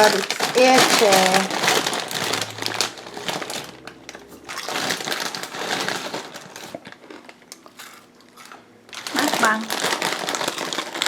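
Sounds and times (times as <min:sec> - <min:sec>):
crinkling and rustling handling: 0:00.0 - 0:11.0.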